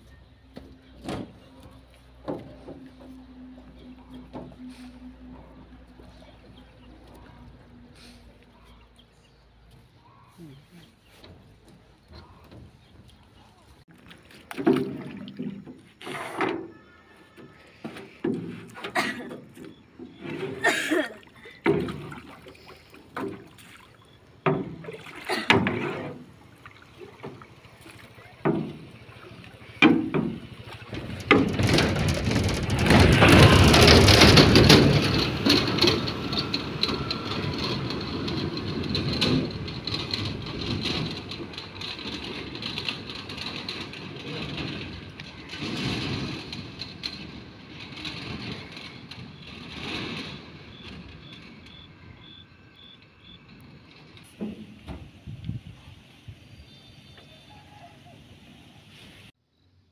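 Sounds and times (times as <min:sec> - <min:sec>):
water splashing and sloshing: 0:00.0 - 0:59.2.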